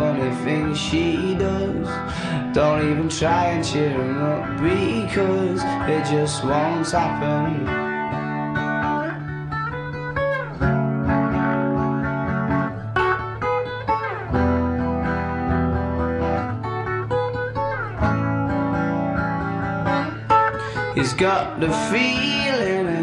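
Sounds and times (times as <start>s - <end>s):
guitars strummed and picked: 0.0s - 23.0s.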